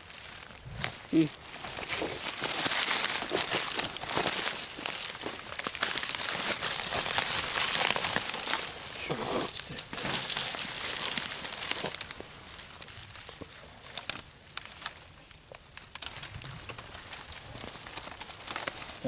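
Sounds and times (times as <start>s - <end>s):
dry stalks crackling and rustling: 0.0s - 19.0s.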